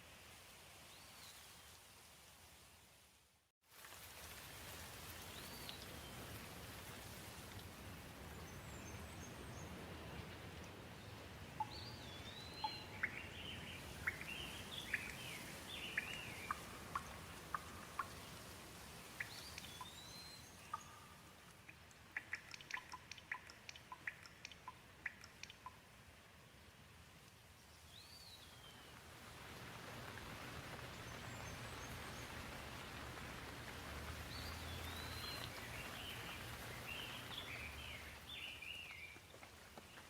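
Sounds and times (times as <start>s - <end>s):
gentle rain: 0.0s - 40.0s
water drips: 3.8s - 9.0s, 10.2s - 40.0s.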